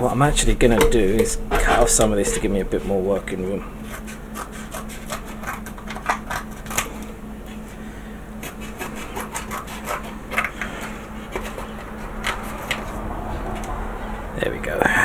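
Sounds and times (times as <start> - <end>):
clay scratching and rubbing: 0.0 - 7.8, 8.4 - 13.7.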